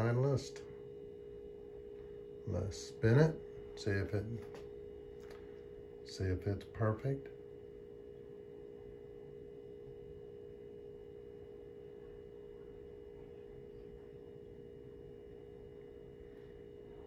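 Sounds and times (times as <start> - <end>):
faint steady hum: 0.0 - 17.0
low background noise: 0.0 - 17.0.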